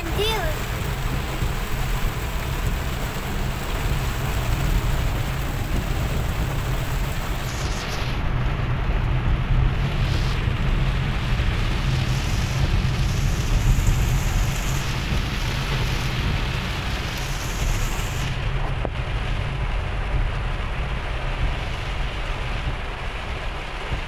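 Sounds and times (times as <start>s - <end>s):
heavy rain on car roof: 0.0s - 24.0s
steady low rumble: 0.0s - 24.0s.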